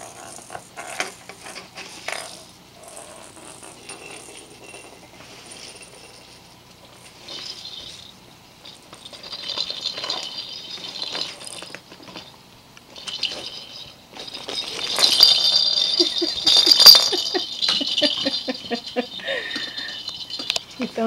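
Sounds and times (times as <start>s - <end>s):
toy balls rattling: 0.0s - 21.0s.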